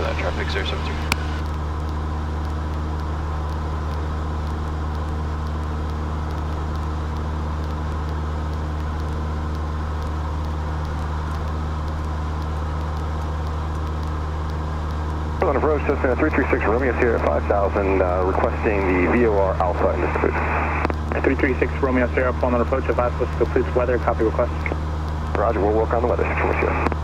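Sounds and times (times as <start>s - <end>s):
airplane engine and propeller droning: 0.0s - 27.0s.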